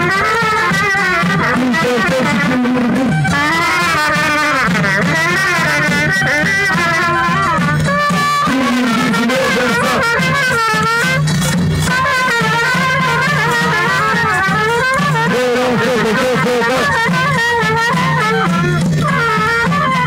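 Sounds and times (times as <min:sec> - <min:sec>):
brass band playing folk dance: 0:00.0 - 0:20.0.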